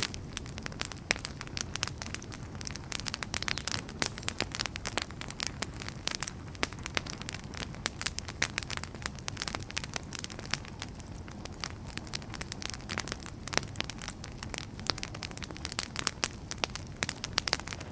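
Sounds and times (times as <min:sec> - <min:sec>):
low rumble of burning logs: 0:00.0 - 0:17.9
sharp snaps of fire: 0:00.0 - 0:17.9
wood fire crackling and popping: 0:00.0 - 0:17.9.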